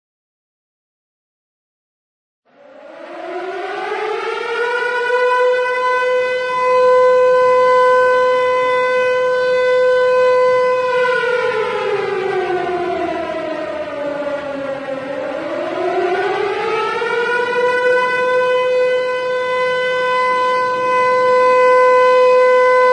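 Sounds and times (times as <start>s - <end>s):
civil defense siren wailing: 2.5s - 22.9s.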